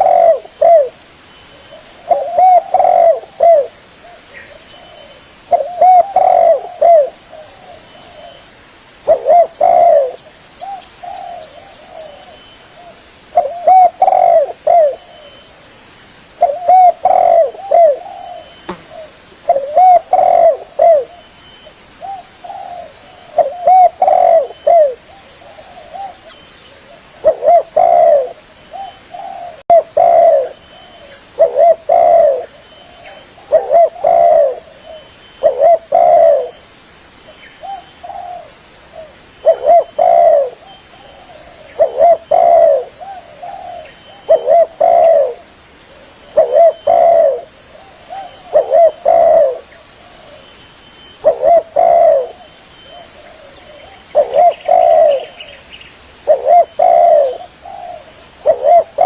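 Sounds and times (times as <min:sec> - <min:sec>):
dove cooing: 0:00.0 - 0:08.4, 0:09.0 - 0:15.5, 0:16.4 - 0:21.3, 0:22.0 - 0:36.6, 0:37.6 - 0:59.0.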